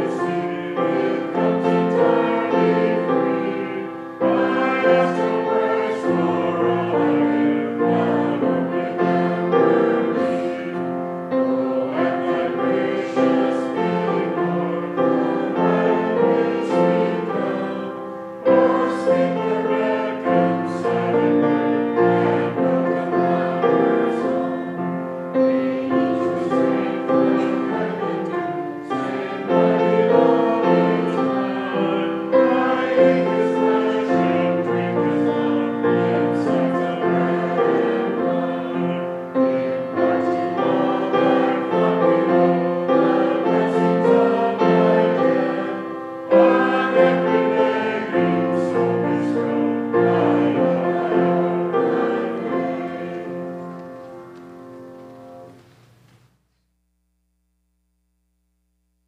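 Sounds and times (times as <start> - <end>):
congregation singing a hymn: 0.0 - 56.0
piano accompaniment: 0.0 - 56.3.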